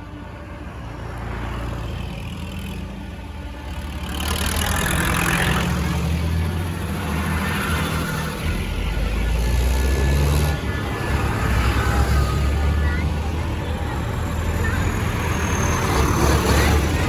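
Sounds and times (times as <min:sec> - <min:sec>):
tractor diesel engine passing: 0:00.0 - 0:17.0.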